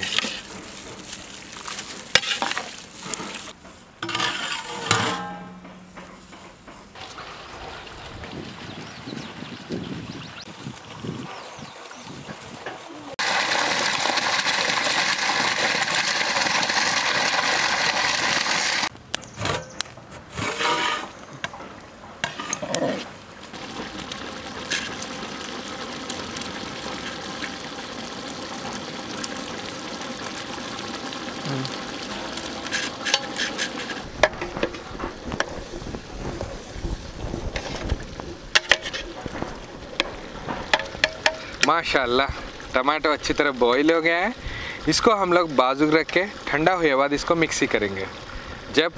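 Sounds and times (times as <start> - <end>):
pot boiling and sizzling: 0.0 - 18.9, 22.2 - 48.9.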